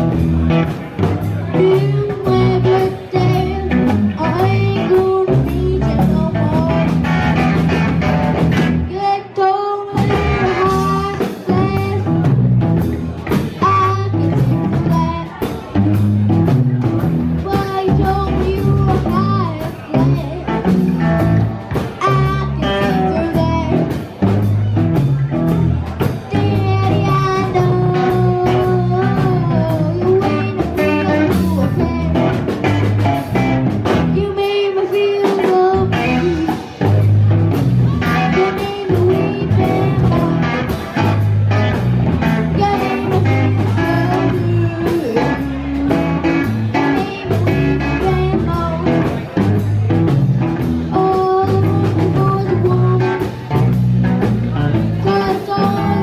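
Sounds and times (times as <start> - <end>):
blues band playing: 0.0 - 56.0.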